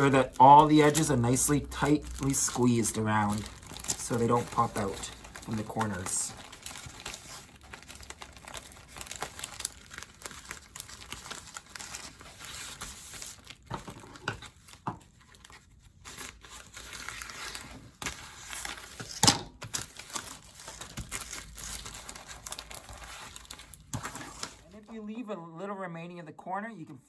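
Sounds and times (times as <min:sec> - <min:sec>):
plastic and paper crinkling: 0:00.0 - 0:24.8.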